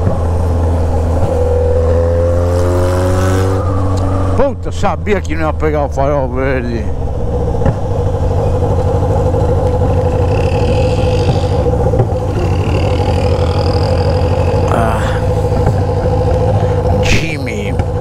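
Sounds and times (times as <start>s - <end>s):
motorcycle engine running at low revs: 0.0s - 18.0s.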